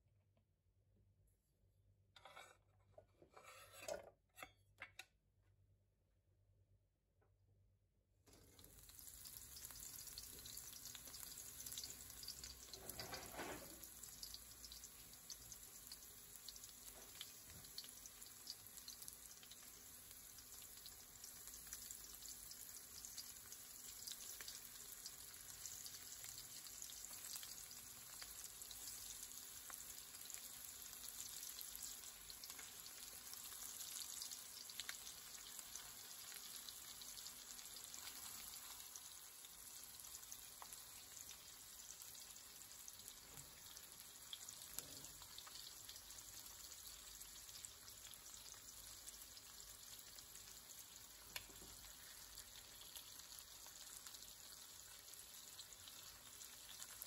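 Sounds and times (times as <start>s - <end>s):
chicken frying in oil: 8.3s - 57.0s.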